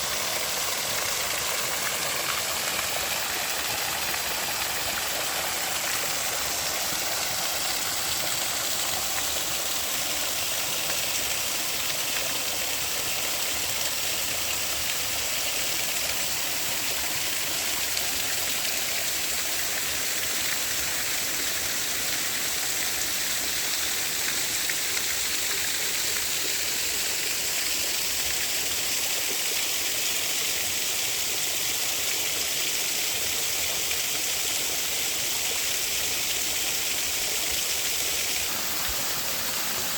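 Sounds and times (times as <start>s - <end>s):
creek water rushing over cascades: 0.0s - 39.9s.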